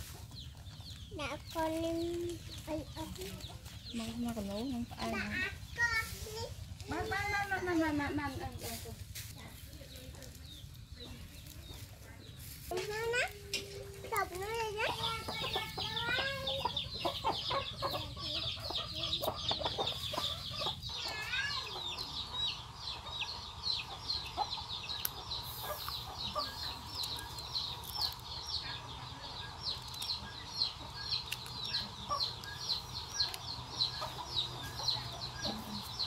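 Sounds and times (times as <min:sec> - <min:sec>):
chickens clucking: 0:00.0 - 0:36.0
chicks peeping: 0:00.0 - 0:36.0.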